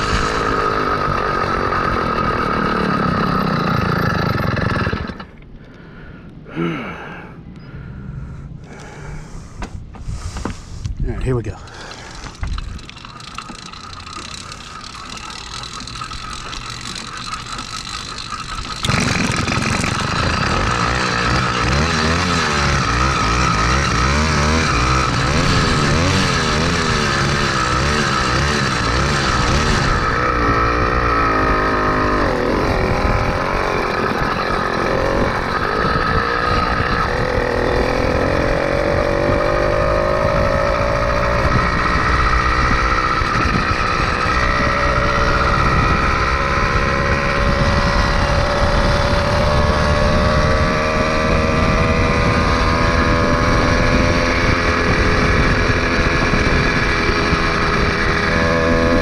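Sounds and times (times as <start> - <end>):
two-stroke engine revving: 0.0 - 5.4, 11.3 - 59.0
rolling mechanical noise: 0.0 - 59.0.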